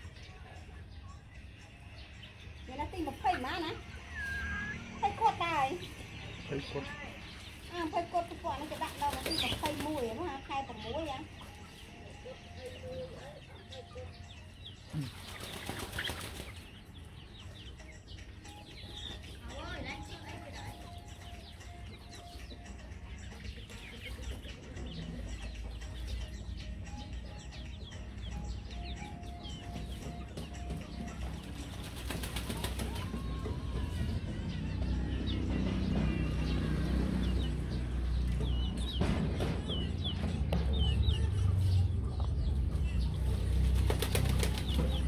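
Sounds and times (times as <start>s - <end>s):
chicks peeping and clucking: 0.0s - 45.0s.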